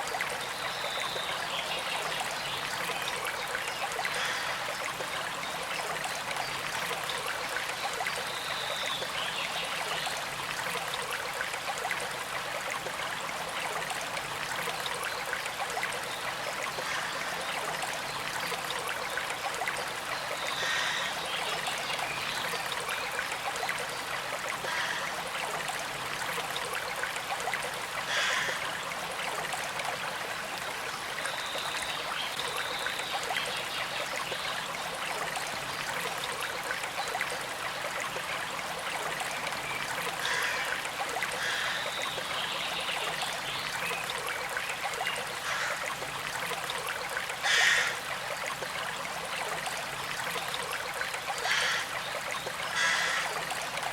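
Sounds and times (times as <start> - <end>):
creek flowing and trickling: 0.0 - 53.9.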